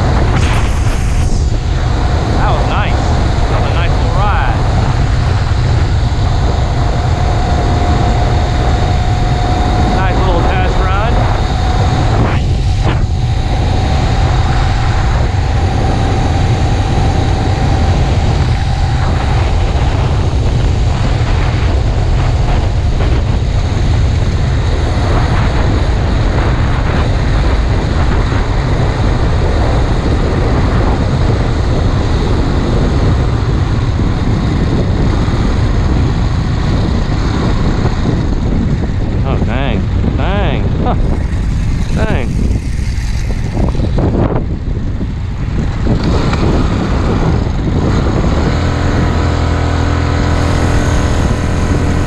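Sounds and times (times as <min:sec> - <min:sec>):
small motorbike engine running: 0:00.0 - 0:52.0
steady drone: 0:00.0 - 0:52.0
wind noise on microphone: 0:00.0 - 0:52.0.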